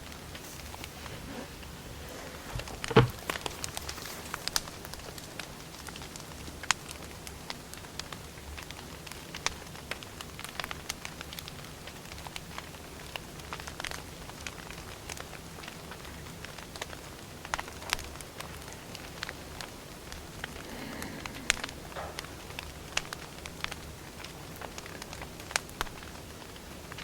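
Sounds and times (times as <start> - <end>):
fire hiss: 0.0 - 27.0
firewood popping and snapping: 0.0 - 27.0.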